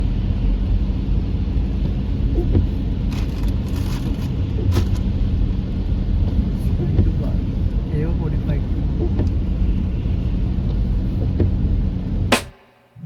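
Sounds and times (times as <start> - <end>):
vehicle rumble: 0.0 - 12.4.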